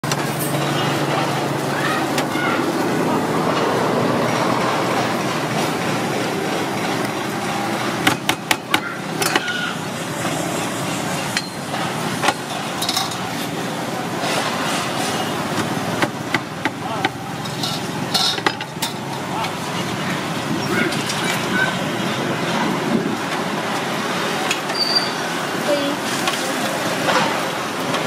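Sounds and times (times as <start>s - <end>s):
street noise: 0.0s - 28.0s.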